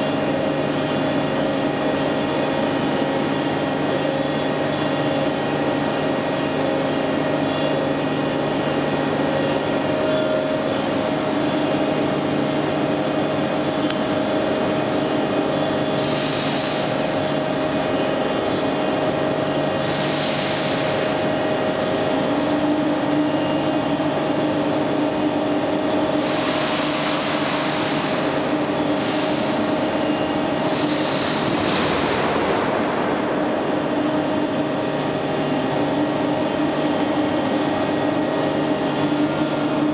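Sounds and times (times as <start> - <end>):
boring machine humming and whining: 0.0 - 39.9.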